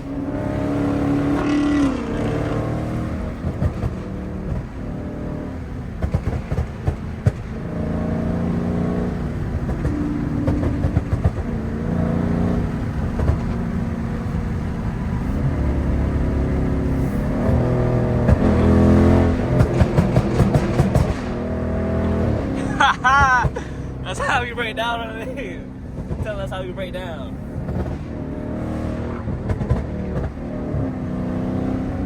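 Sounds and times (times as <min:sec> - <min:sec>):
car exhaust revving through gears: 0:00.0 - 0:32.0
exhaust crackles: 0:00.0 - 0:32.0.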